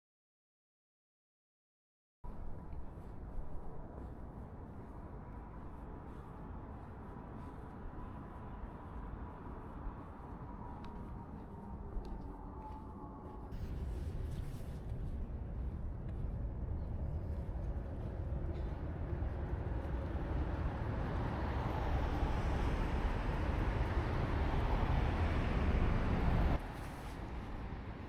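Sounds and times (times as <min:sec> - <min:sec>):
rumble of passing vehicles: 0:02.5 - 0:12.6, 0:13.5 - 0:28.0.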